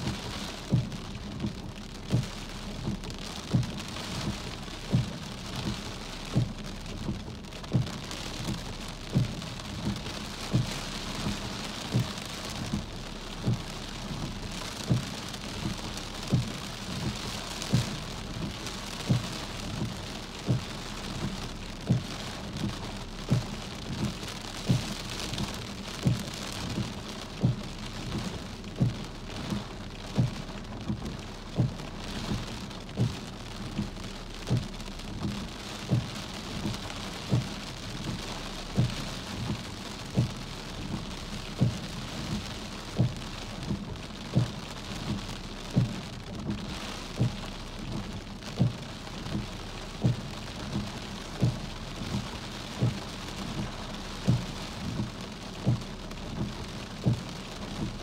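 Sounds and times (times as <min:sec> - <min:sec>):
soft low regular thumps: 0:00.0 - 0:58.0
steady rain falling: 0:00.0 - 0:58.0.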